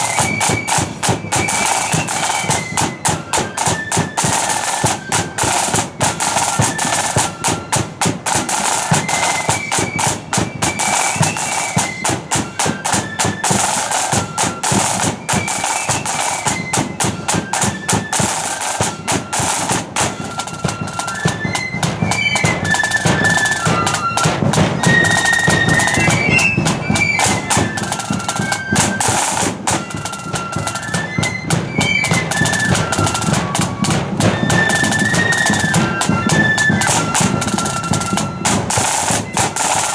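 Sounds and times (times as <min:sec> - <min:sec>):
flutes playing melody: 0:00.0 - 0:39.9
rapid snare drum beating: 0:00.0 - 0:39.9.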